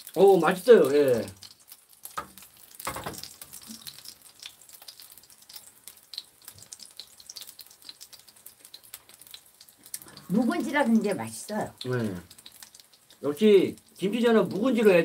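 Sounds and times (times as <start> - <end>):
pancake sizzling in oil: 0.0 - 15.0.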